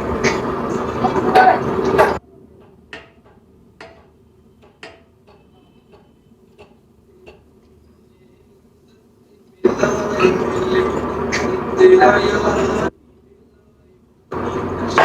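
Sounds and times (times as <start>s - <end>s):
faint steady hum: 0.0s - 2.6s, 5.4s - 15.0s.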